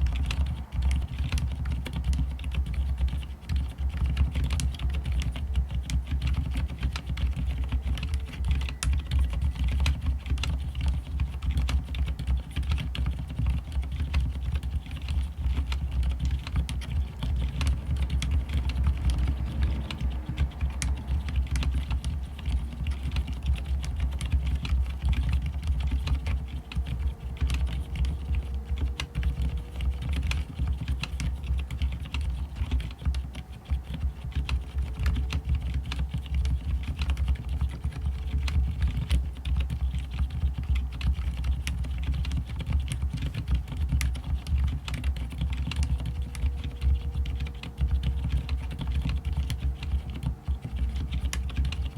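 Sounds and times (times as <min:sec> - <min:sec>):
fingers typing on keyboard: 0:00.0 - 0:51.9.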